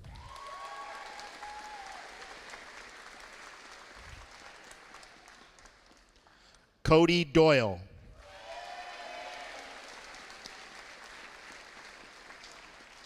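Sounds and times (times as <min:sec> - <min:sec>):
audience applauding: 0:00.0 - 0:06.4, 0:08.2 - 0:13.0.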